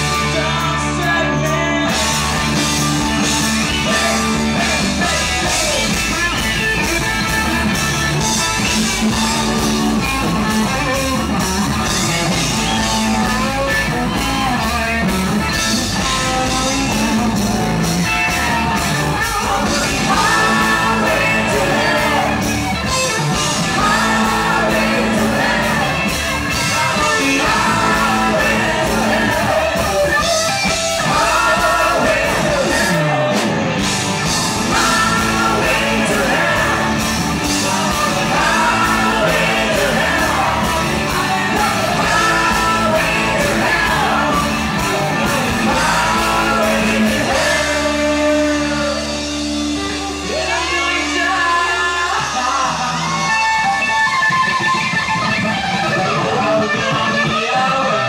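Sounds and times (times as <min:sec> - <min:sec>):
person singing: 0:00.0 - 0:07.6, 0:17.9 - 0:33.6, 0:34.2 - 0:58.0
drums: 0:00.0 - 0:58.0
electric guitar: 0:00.0 - 0:58.0
live rock band playing: 0:00.0 - 0:58.0.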